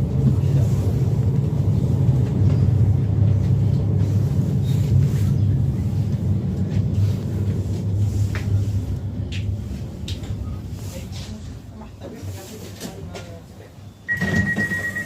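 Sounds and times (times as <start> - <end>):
car engine and road noise: 0.0 - 13.4.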